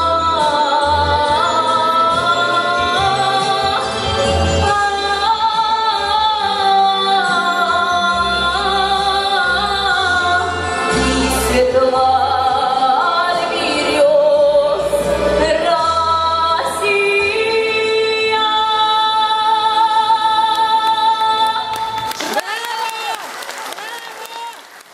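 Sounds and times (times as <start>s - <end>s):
woman singing slow song: 0.0s - 22.0s
instrumental accompaniment: 0.0s - 22.1s.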